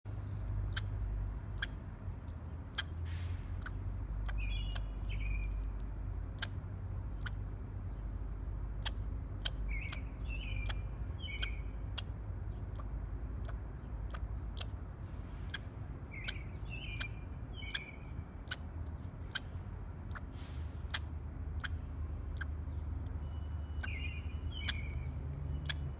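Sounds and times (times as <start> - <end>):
squirrel chirping: 0.1 - 3.0, 3.6 - 7.5, 8.7 - 14.8, 15.5 - 25.9
steady low rumble: 0.1 - 25.9
squirrel eating clicks: 0.2 - 2.9, 3.6 - 7.5, 8.7 - 14.8, 15.5 - 20.3, 20.9 - 23.2, 23.8 - 25.9.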